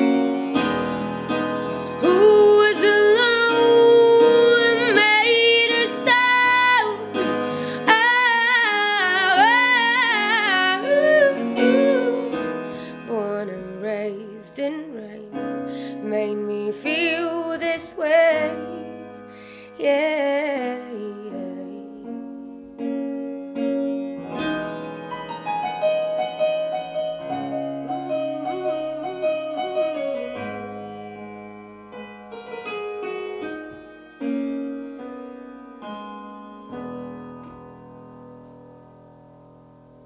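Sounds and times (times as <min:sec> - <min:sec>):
piano chords ringing: 0:00.0 - 0:40.0.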